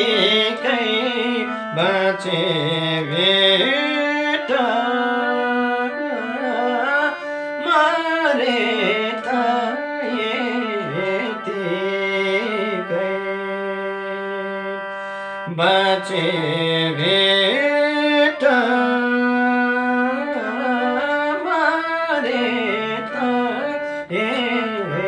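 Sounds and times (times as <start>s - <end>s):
person singing wordless vocal: 0.0s - 25.0s
sustained instrumental accompaniment: 0.0s - 25.0s.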